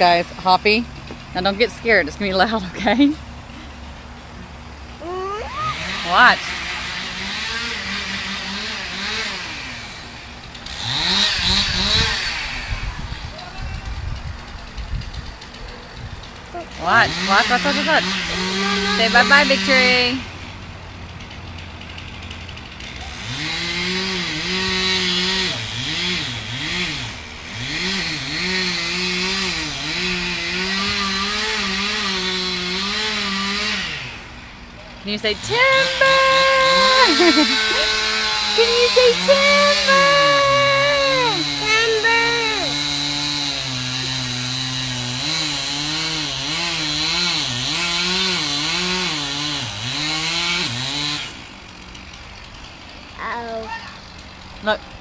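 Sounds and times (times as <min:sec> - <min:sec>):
chainsaw revving: 0:05.0 - 0:13.3, 0:14.4 - 0:53.2.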